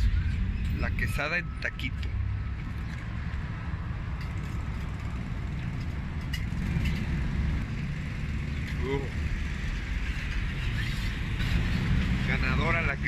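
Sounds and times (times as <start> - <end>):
street background rumble: 0.0 - 13.0.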